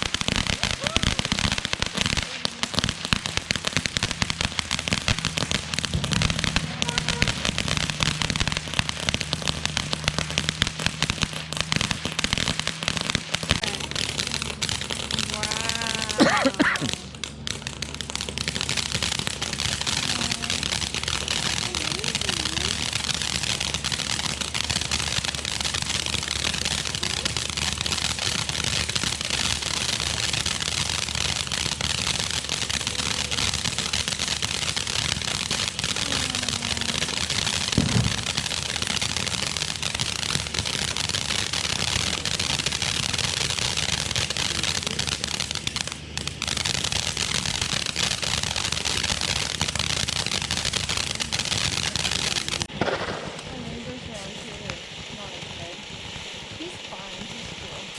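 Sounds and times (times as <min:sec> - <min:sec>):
loud firework bang: 0:00.0 - 0:55.8
fireworks crackling: 0:00.0 - 0:57.9.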